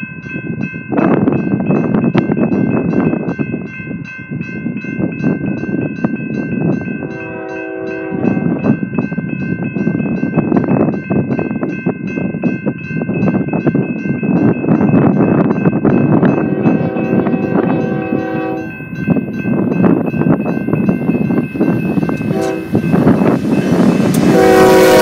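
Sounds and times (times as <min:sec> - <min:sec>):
crossing bell ringing: 0:00.0 - 0:25.0
train wheels rumbling on rail: 0:00.0 - 0:25.0.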